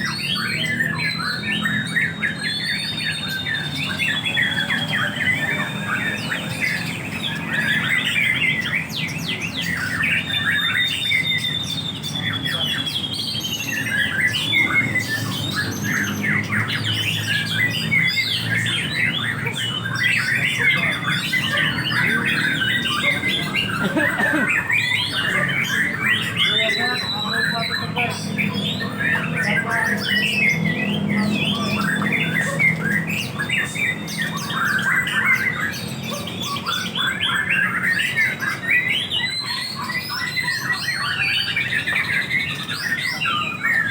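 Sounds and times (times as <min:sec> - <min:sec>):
caged songbirds chirping: 0:00.0 - 0:43.9
murmur of people: 0:00.0 - 0:43.9.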